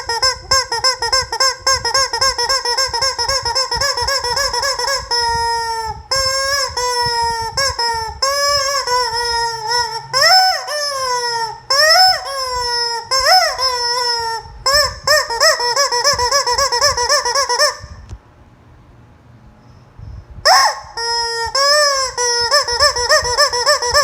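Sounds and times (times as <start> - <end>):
rubber chicken toy squawking: 0.0 - 18.0, 20.5 - 24.0.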